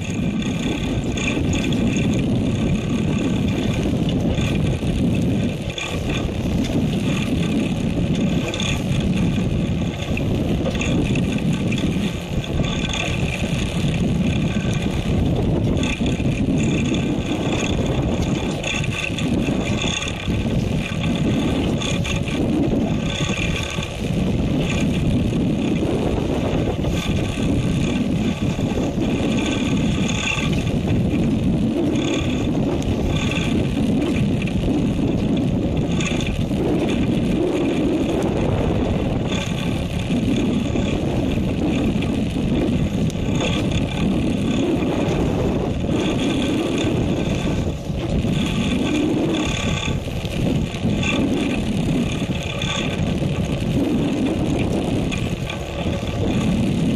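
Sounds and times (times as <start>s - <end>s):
boat engine running: 0.0s - 56.9s
high whine: 0.0s - 56.9s
sea noise: 0.0s - 56.9s
wind: 0.0s - 56.9s.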